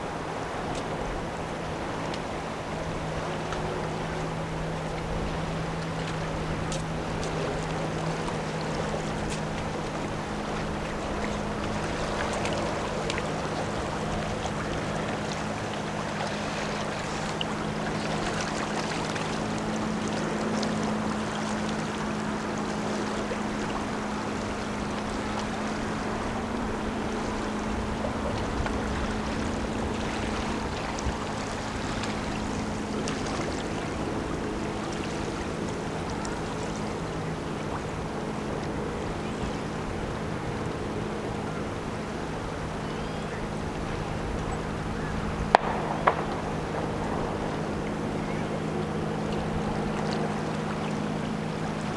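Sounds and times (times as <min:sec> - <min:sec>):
ship engines droning: 0:00.0 - 0:51.9
water noise: 0:00.0 - 0:51.9
wind: 0:00.0 - 0:51.9.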